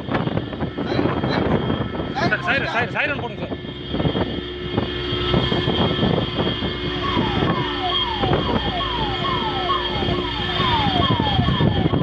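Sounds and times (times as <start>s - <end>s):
car engine and road noise: 0.0s - 12.0s
siren falling tone: 1.2s - 12.0s.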